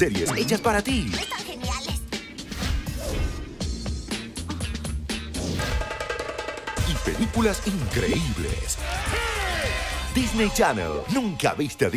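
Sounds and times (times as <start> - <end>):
upbeat music with drum beat: 0.0 - 11.9.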